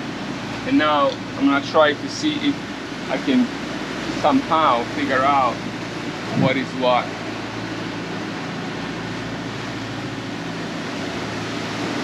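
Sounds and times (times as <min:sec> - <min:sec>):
boat engine humming: 0:00.0 - 0:12.0
wind and sea water hiss: 0:00.0 - 0:12.0.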